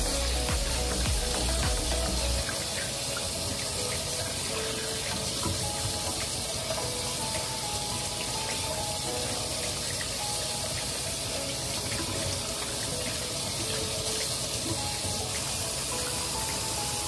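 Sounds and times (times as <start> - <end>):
faucet running into steel sink: 0.0 - 17.0.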